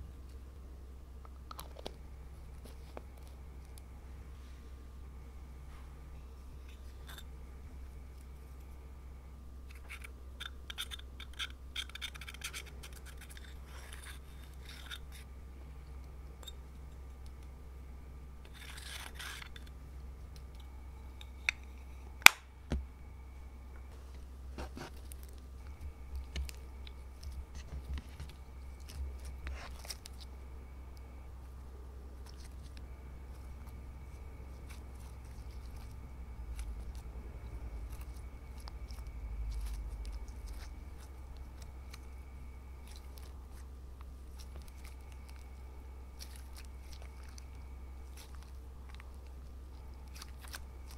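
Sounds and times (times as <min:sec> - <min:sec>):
steady low hum: 0:00.0 - 0:50.9
eyeshadow scraping and crackling: 0:05.7 - 0:17.5, 0:18.4 - 0:22.3, 0:23.9 - 0:50.9.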